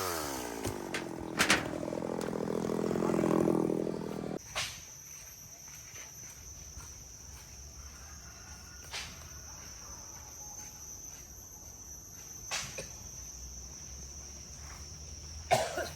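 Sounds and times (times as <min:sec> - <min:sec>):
insects trilling: 0:00.0 - 0:15.9.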